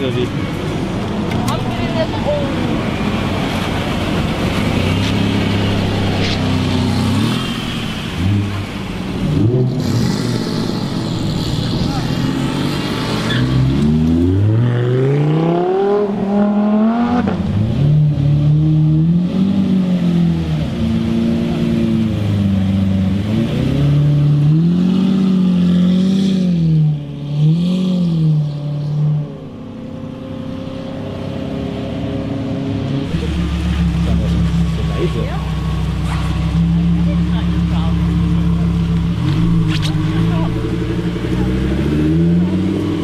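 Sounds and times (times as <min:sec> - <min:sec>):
car engine accelerating and revving: 0:00.0 - 0:43.0.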